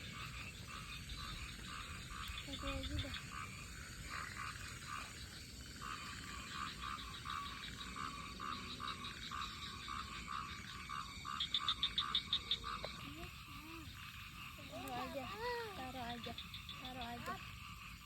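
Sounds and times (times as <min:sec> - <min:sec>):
frogs croaking in chorus: 0:00.0 - 0:18.0
higher quicker frog calls: 0:00.0 - 0:18.0.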